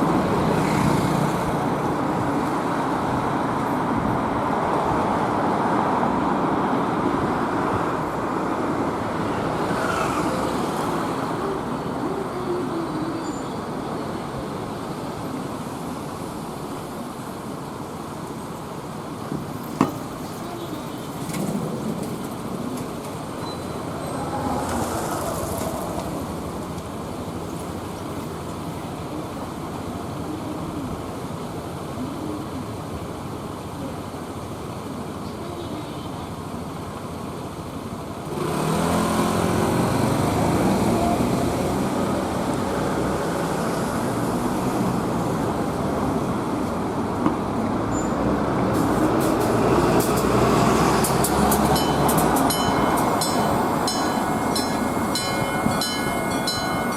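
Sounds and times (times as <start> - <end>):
road noise hiss: 0.0 - 56.9
street traffic passing: 0.0 - 56.9
vehicle engine humming: 0.0 - 56.9.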